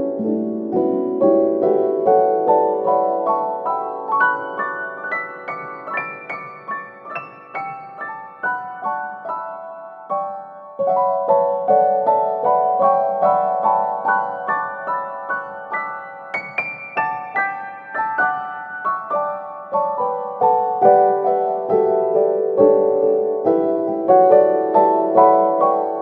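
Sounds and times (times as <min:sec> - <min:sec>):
gentle solo piano: 0:00.0 - 0:26.0.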